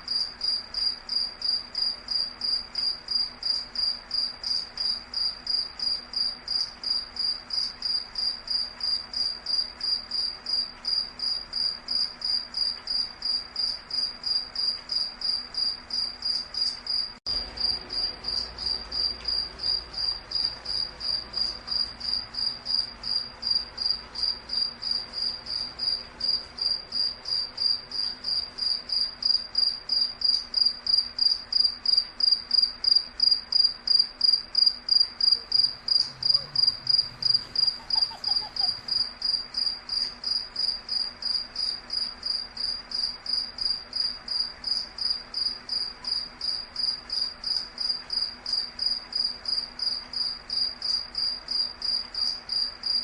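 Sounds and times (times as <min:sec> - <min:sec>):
insect chirping: 0:00.0 - 0:53.0.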